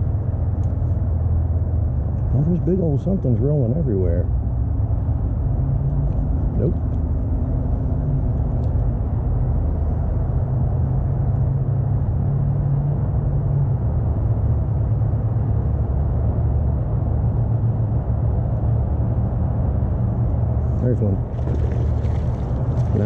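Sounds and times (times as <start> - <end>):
low engine-like drone: 0.0 - 23.0.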